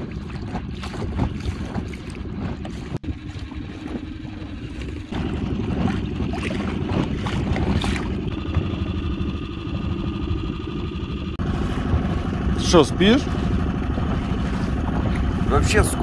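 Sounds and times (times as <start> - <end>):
boat motor running: 0.0 - 16.0
water noise: 0.0 - 16.0
wind: 0.0 - 16.0
steady high whine: 3.1 - 16.0.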